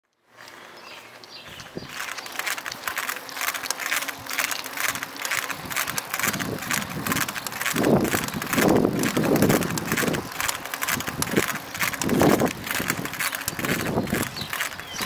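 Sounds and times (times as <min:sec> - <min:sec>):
bicycle drivetrain clicking: 0:00.0 - 0:15.0.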